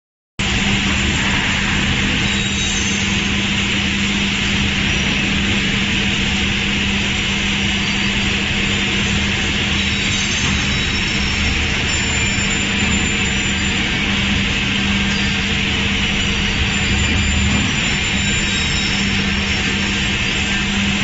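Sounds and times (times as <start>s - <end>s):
woodworking machinery humming: 0.4s - 21.0s.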